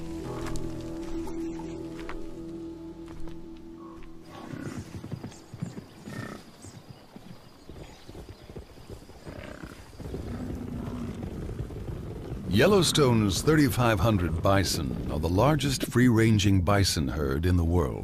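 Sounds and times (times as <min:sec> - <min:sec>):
hooves thudding on ground: 0:00.0 - 0:16.0.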